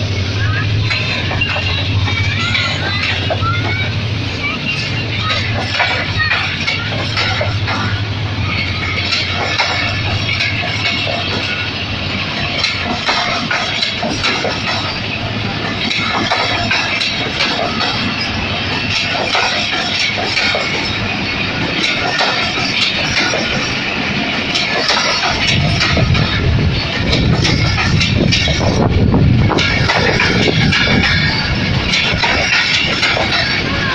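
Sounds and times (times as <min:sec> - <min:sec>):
train wheels rumbling on rails: 0:00.0 - 0:33.9
wheels clicking over rail joints: 0:00.0 - 0:33.9.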